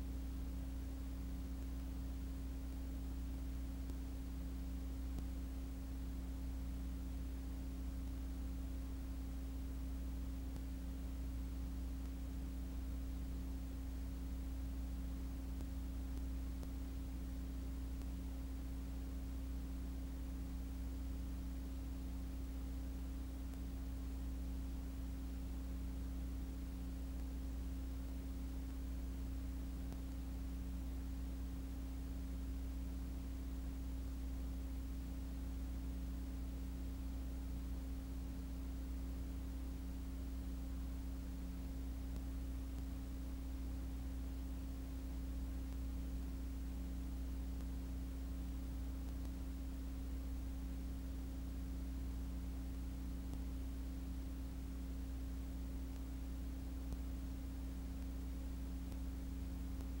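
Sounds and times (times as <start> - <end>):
faint hiss: 0.0 - 60.0
low electrical hum: 0.0 - 60.0.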